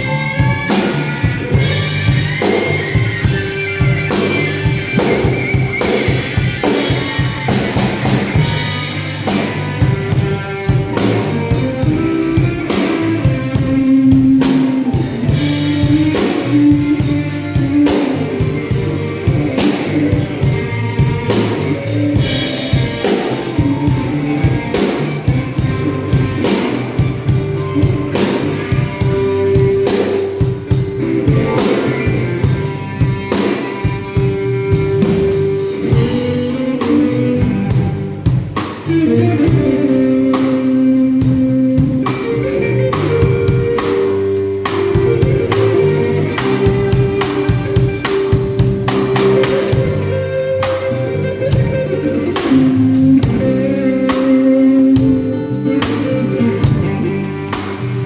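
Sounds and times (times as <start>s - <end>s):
bass: 0.0s - 58.0s
drums: 0.0s - 58.0s
electric guitar lead: 0.0s - 58.0s.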